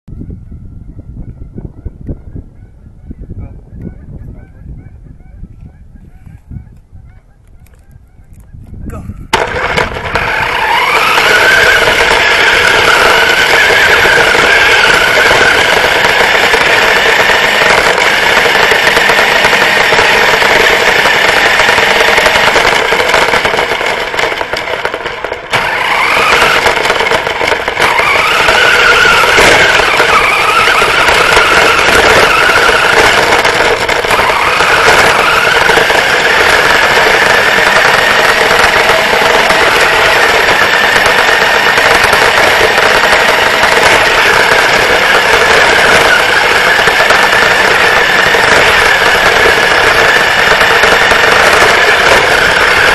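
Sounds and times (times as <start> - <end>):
toy car motor and gears whining: 9.3 - 52.9.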